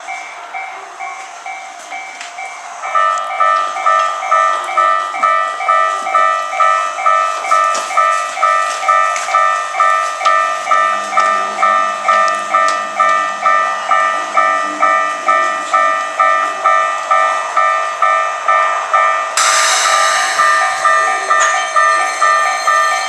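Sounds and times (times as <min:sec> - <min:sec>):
level crossing bells ringing: 0:00.0 - 0:23.0
louder crossing bell: 0:00.0 - 0:23.0.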